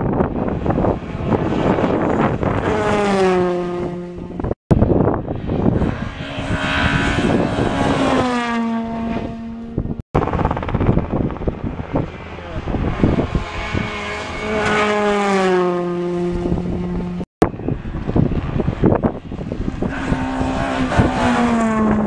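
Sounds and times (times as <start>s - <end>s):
rally cars racing past: 0.2s - 4.6s, 5.6s - 10.0s, 11.9s - 17.2s, 18.0s - 22.0s.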